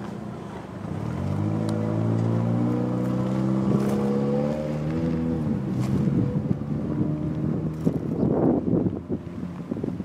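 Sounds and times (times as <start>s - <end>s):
vehicle engine running: 0.3s - 10.0s.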